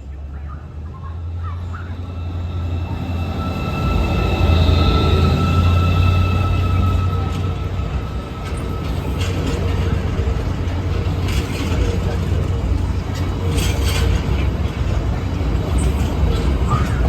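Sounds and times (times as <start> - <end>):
locomotive diesel engine drone: 0.1 - 17.0
train wheels clattering on rails: 2.2 - 17.0.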